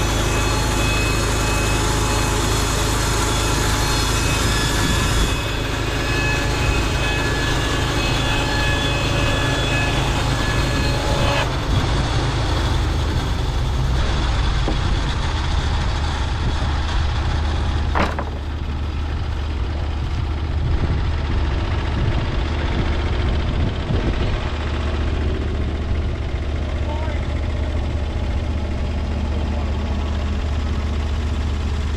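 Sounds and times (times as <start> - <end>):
bandsaw whine: 0.0 - 31.9
engine drone: 0.0 - 31.9.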